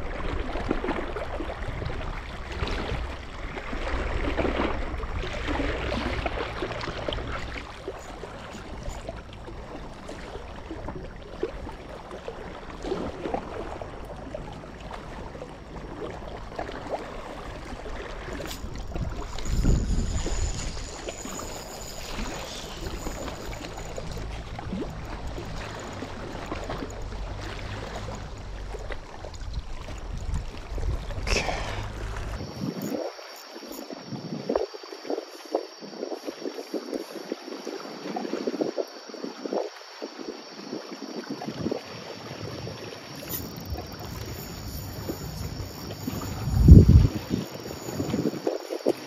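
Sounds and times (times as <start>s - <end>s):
water splashing and sloshing: 0.0s - 49.0s.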